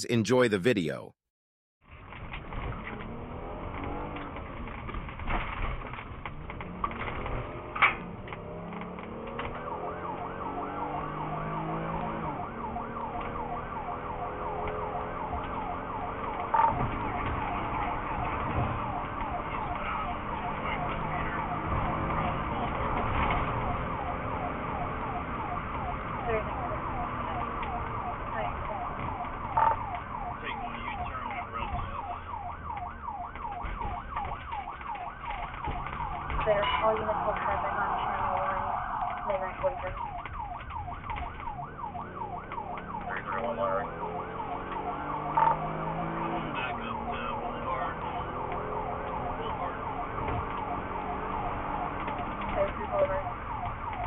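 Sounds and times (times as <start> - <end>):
vehicle noise: 1.8 - 54.0
police siren yelping: 2.7 - 54.0.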